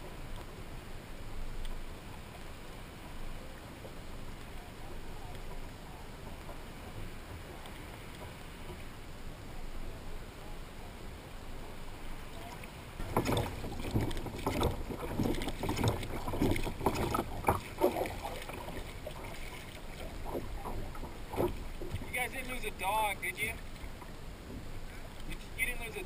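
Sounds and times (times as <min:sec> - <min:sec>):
water slapping kayak hull: 0:00.0 - 0:26.0.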